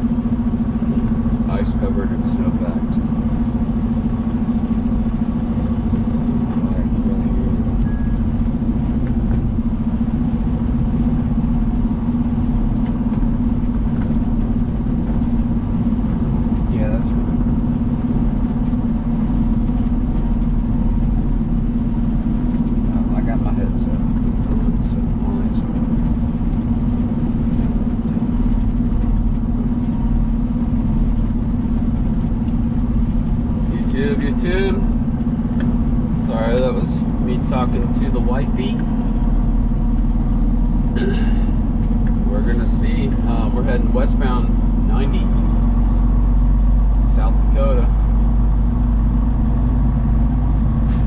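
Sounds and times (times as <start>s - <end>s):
diesel truck engine running: 0.0s - 51.0s.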